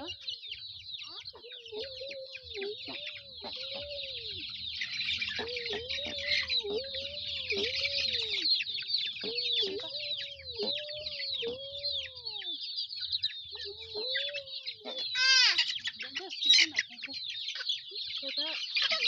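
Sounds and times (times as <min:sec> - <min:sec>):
chickens peeping: 0:00.0 - 0:19.0
lower repeated chicken calls: 0:00.0 - 0:19.0.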